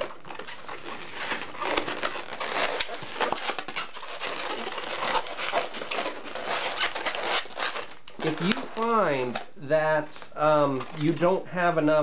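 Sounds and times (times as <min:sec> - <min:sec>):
balloon squeaking and rubbing: 0:00.0 - 0:11.3.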